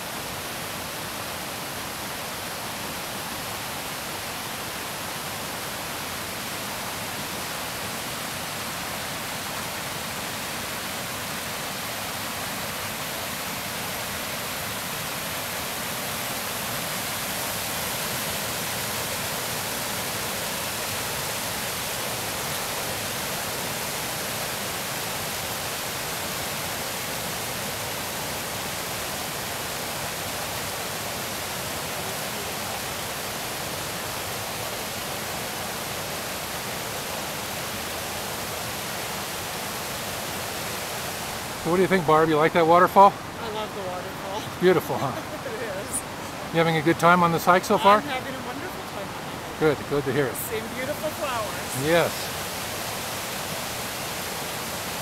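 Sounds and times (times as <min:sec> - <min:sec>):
stream rushing down waterfall: 0:00.0 - 0:55.0.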